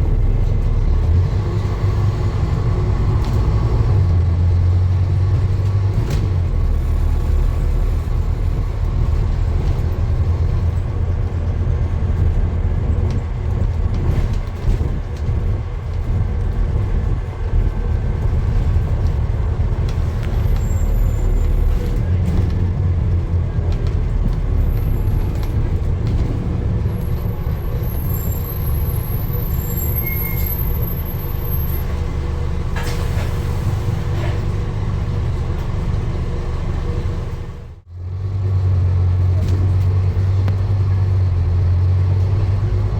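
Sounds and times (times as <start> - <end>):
road vehicle low rumble: 0.0 - 42.9.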